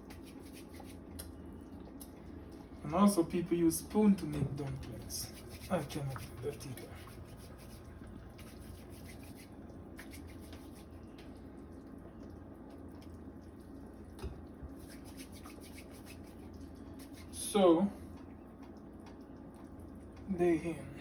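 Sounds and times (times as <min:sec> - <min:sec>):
pot of soup boiling: 0:00.1 - 0:21.0.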